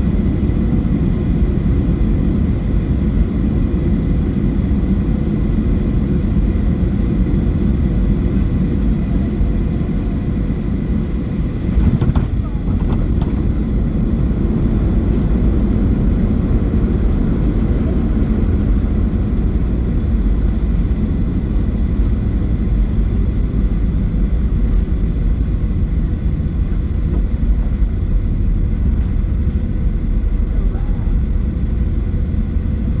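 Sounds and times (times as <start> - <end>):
aircraft cabin rumble: 0.0 - 33.0
faint steady whines: 0.0 - 33.0.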